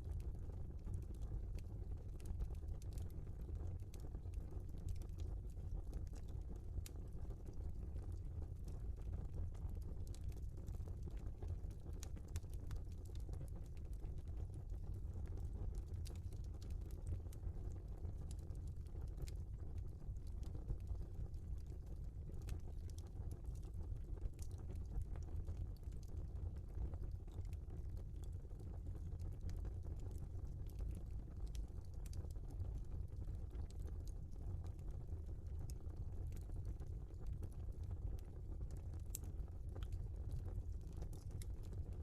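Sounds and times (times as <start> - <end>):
low rumble of flames: 0.0 - 42.0
fire crackling and popping: 0.1 - 42.0.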